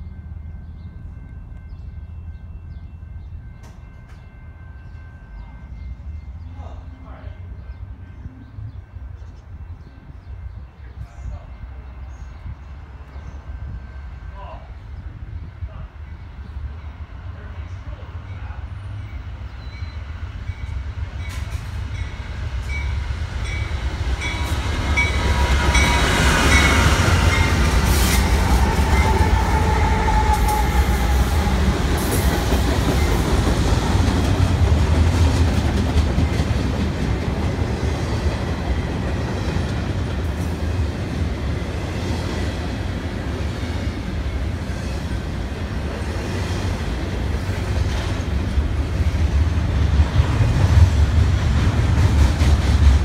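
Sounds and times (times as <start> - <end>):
diesel locomotives rumbling: 0.0 - 53.0
train wheels rumbling on rail: 0.0 - 53.0.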